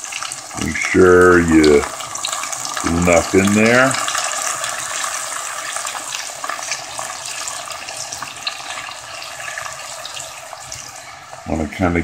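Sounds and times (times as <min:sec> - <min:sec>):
stock pouring into sizzling pot: 0:00.0 - 0:12.0.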